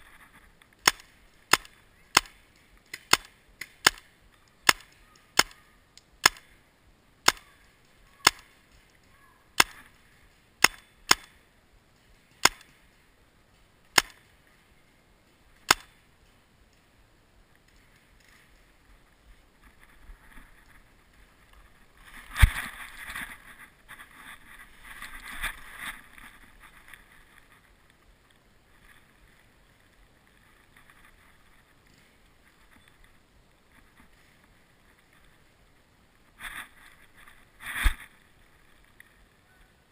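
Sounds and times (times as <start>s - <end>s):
rustling in dry leaves: 6.5s - 39.9s.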